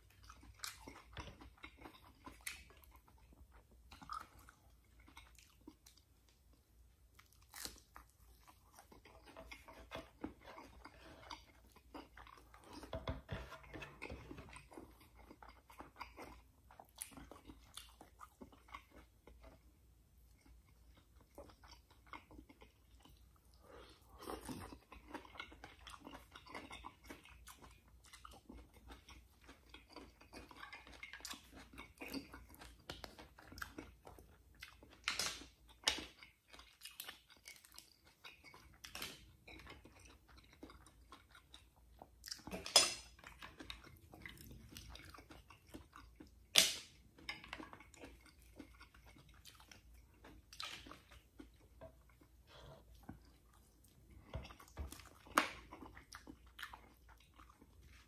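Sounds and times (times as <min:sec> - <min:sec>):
chewing and mouth clicks: 0:00.0 - 0:58.0.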